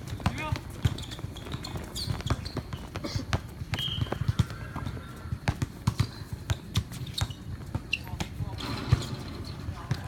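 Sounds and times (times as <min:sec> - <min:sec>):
basketball bouncing on court: 0:00.0 - 0:10.0
sneaker squeak: 0:00.0 - 0:10.0.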